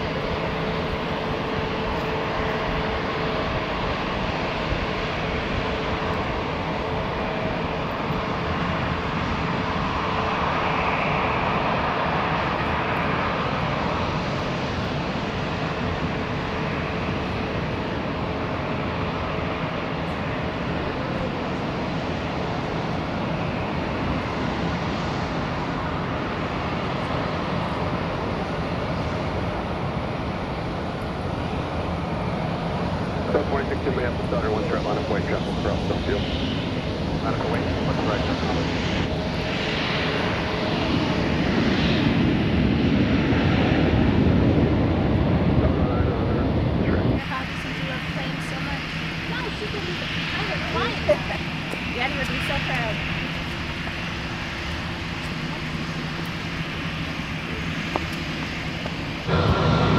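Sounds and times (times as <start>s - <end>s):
aircraft engines rumbling: 0.0s - 59.9s
faint engine whine: 0.0s - 59.9s.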